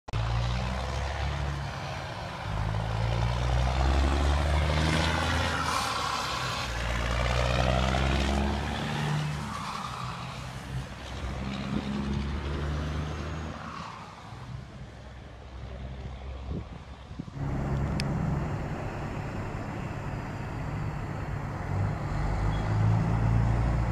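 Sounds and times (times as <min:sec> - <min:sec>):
truck diesel engine passing: 0:00.2 - 0:14.8, 0:17.4 - 0:23.9.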